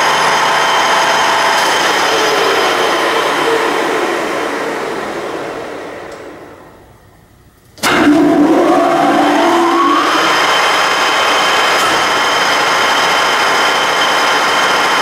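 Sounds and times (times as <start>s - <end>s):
lathe running: 0.0s - 7.0s, 7.9s - 15.0s.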